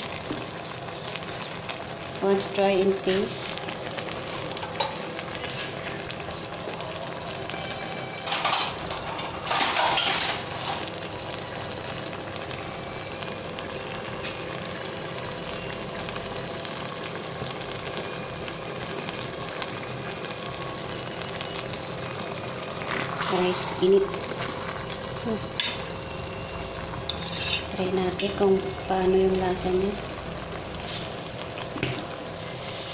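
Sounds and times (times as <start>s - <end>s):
food sizzling in a pot: 0.0s - 32.9s.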